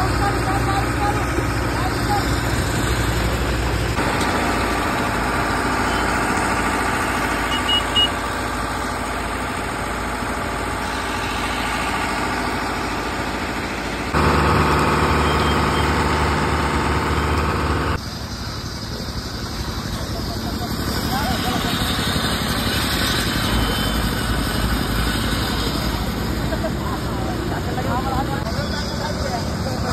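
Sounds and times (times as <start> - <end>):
engines running: 0.0 - 29.9.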